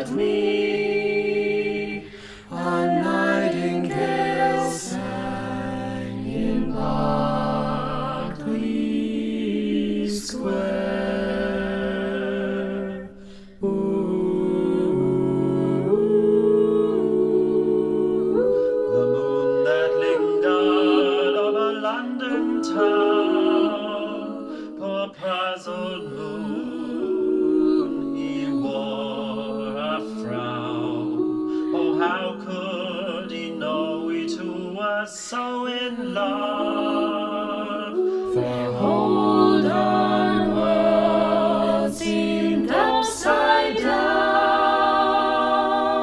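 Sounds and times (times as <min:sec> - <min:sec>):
a cappella ensemble singing: 0:00.0 - 0:46.0.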